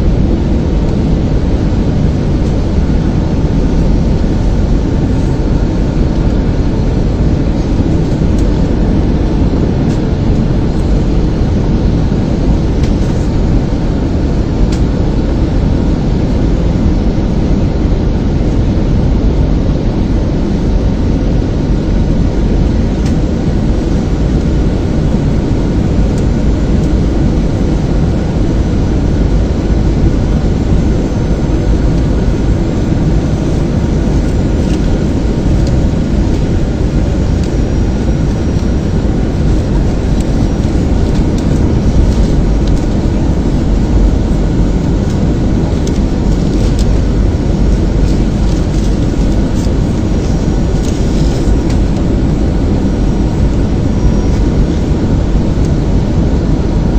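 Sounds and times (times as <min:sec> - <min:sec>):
jet cabin engine drone: 0:00.0 - 0:56.9.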